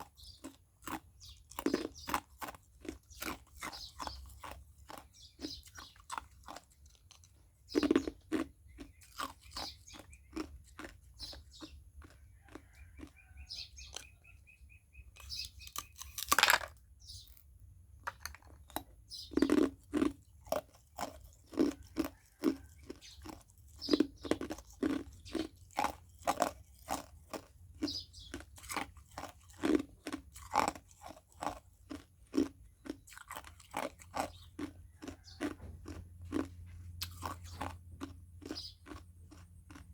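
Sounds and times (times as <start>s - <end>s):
person crunching ice: 0.0s - 12.6s, 15.2s - 16.7s, 18.1s - 39.9s.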